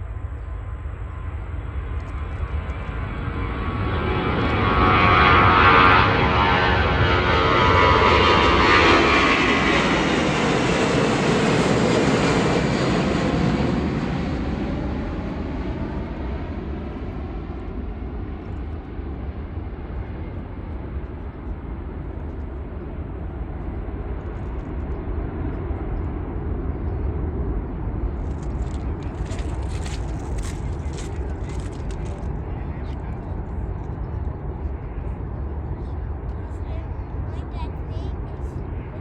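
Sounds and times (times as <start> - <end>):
jet airliner engines at takeoff: 0.0 - 39.0.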